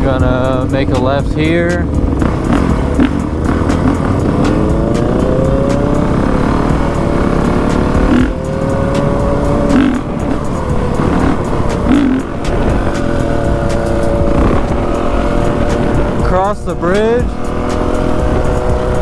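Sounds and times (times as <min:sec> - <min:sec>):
dirt bike engine accelerating: 0:00.0 - 0:19.0.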